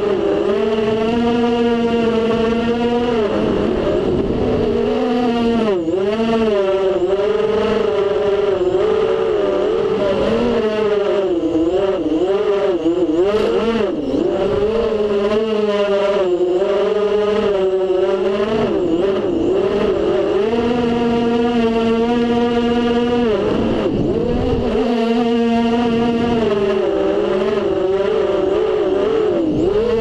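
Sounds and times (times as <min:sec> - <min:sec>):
drone motors and propellers whining: 0:00.0 - 0:30.0.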